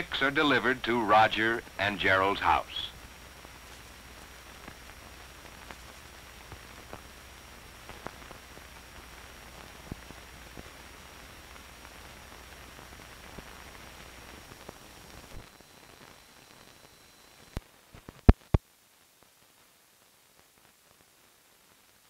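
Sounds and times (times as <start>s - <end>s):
faint high whine: 0.0s - 22.0s
film soundtrack hiss: 0.0s - 22.0s.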